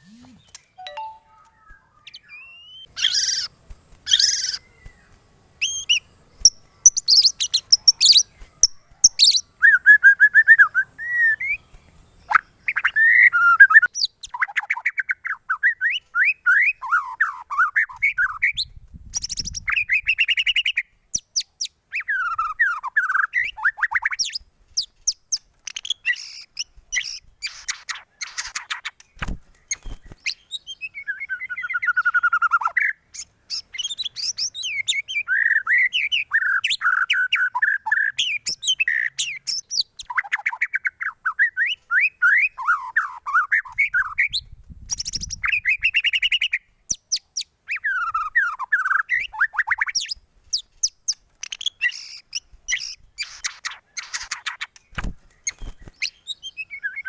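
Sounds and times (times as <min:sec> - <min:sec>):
bird singing whistles and trills: 0:00.0 - 0:03.5, 0:04.1 - 0:57.0.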